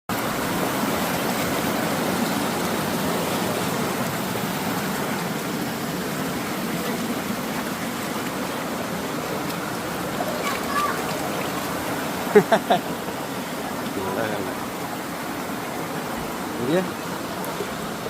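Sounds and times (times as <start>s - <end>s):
stream flowing: 0.1s - 18.0s.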